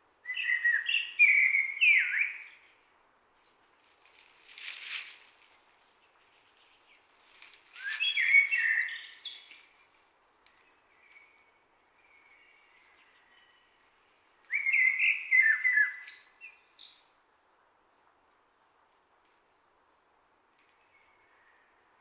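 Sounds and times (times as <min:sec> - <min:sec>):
songbird singing: 0:00.0 - 0:17.6, 0:18.4 - 0:22.0.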